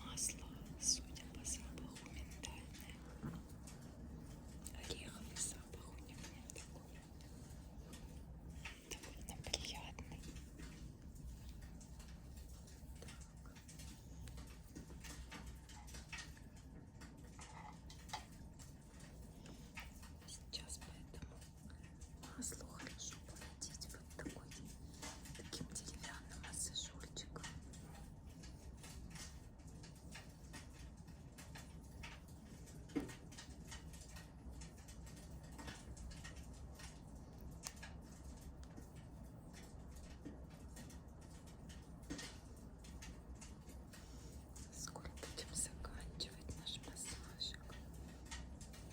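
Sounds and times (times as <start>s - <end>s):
low steady hum: 0.0s - 48.9s
wood fire crackling: 0.0s - 48.9s.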